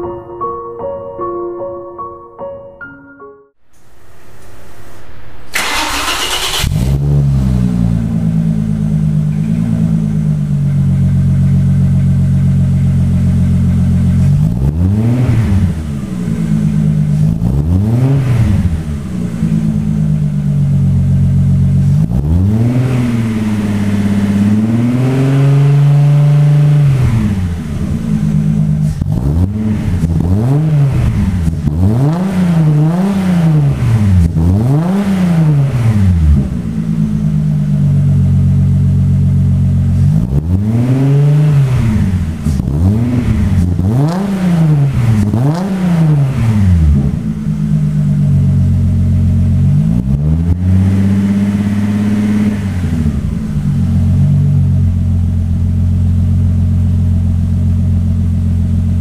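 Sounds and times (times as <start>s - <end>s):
engine revving: 3.8s - 55.6s.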